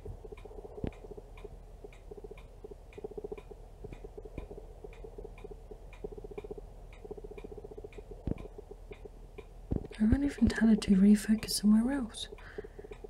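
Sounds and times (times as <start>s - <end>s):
rapid buzzing clicks: 0.0s - 13.0s
camera autofocus ticking: 0.2s - 11.5s.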